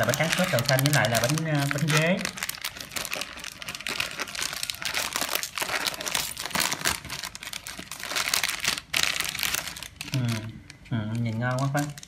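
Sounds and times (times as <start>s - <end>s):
plastic packet crinkling: 0.0s - 12.0s.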